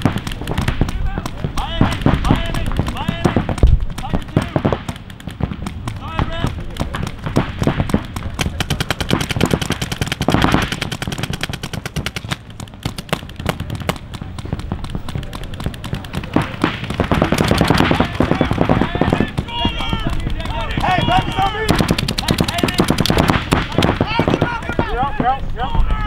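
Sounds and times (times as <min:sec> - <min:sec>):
paintball markers firing: 0:00.0 - 0:26.0.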